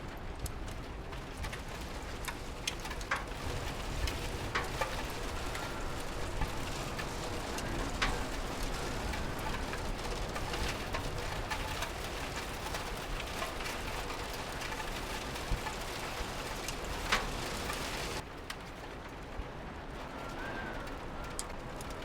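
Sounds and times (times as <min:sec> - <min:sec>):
rain against a window: 0:00.0 - 0:22.0.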